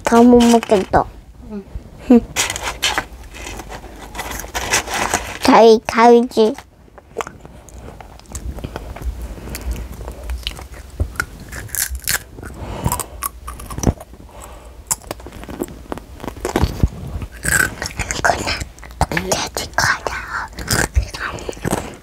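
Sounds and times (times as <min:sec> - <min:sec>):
child chewing crunchy chips: 0:02.4 - 0:05.5, 0:07.1 - 0:22.0.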